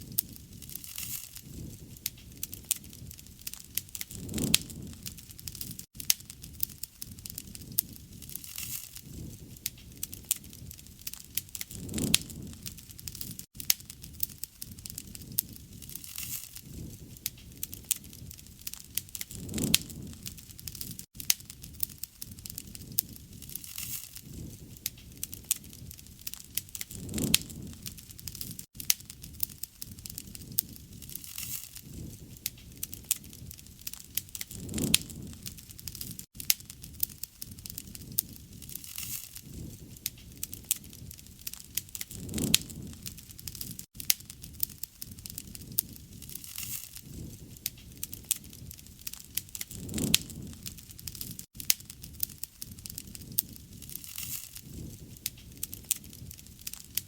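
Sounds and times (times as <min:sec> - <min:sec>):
campfire crackling: 0:00.0 - 0:57.0
low rush of flame: 0:00.0 - 0:57.0.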